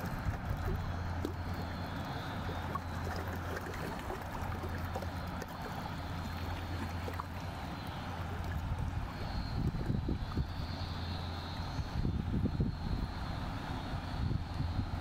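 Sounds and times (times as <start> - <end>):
river water rushing and lapping: 0.0 - 15.0
ship diesel engine drone: 0.0 - 15.0.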